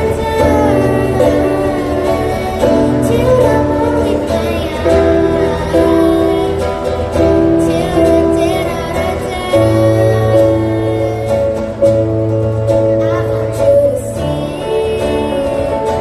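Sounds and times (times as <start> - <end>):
instrumental accompaniment: 0.0 - 16.0
woman singing a slow pop song: 0.0 - 16.0.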